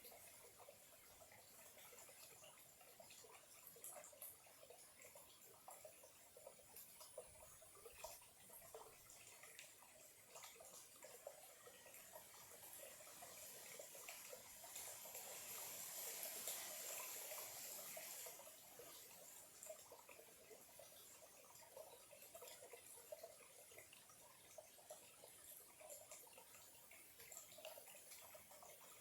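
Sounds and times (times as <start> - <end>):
small stream trickling: 0.0 - 29.0.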